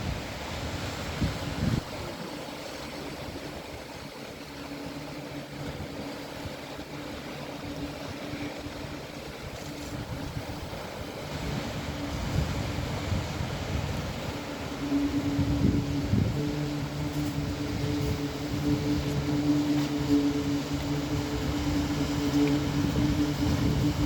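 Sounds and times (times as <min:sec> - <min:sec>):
boat engine hum: 0:00.0 - 0:24.0
sea waves washing: 0:00.0 - 0:24.0
wind buffeting microphone: 0:00.0 - 0:24.0.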